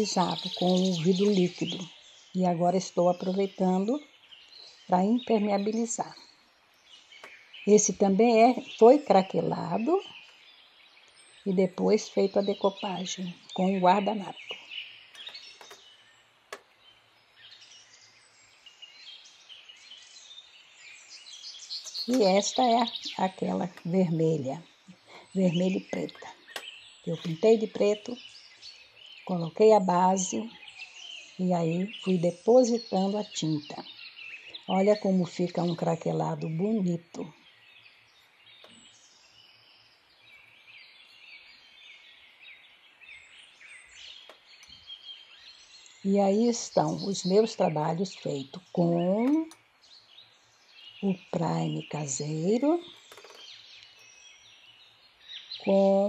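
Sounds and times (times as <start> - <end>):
faint birds chirping: 0.0 - 56.0.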